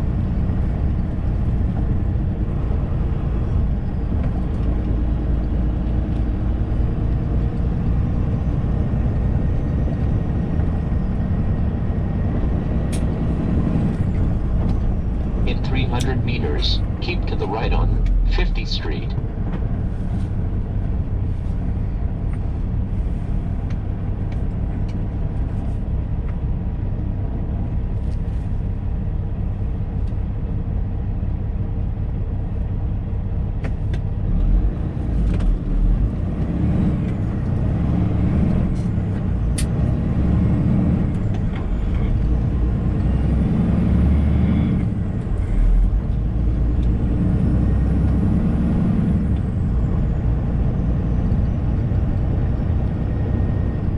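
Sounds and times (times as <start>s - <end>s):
road noise: 0.0s - 53.9s
truck diesel engine rumble: 0.0s - 53.9s.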